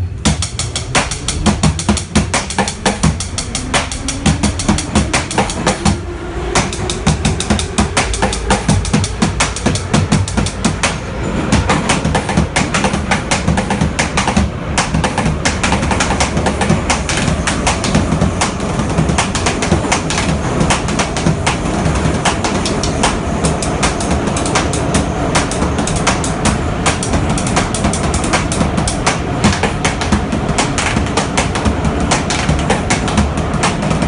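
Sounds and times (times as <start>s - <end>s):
drumming on plastic buckets: 0.0s - 6.0s, 6.6s - 34.0s
subway car rumble and clatter: 0.0s - 34.0s.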